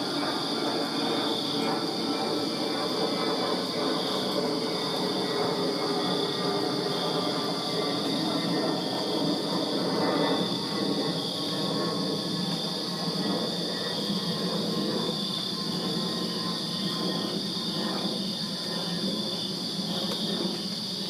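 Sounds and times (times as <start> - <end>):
continuous low rumble: 0.0 - 21.0
crickets chirping: 0.0 - 21.0.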